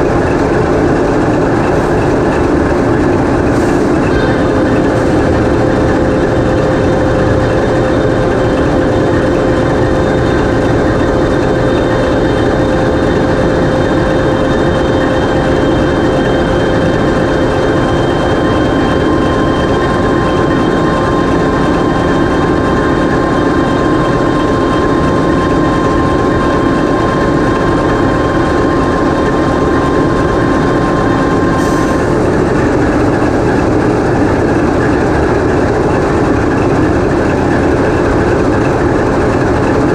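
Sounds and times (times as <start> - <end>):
diesel engine running: 0.0 - 39.9
thin steady whines: 0.0 - 39.9.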